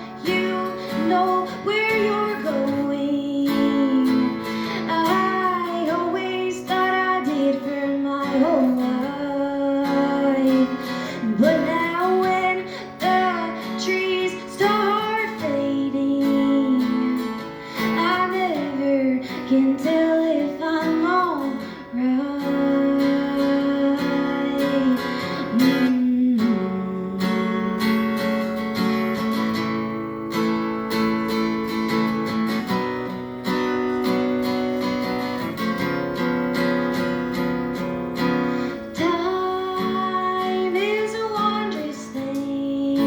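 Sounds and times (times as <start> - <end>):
acoustic guitar strumming: 0.0 - 43.0
bending guitar melody notes: 0.0 - 43.0.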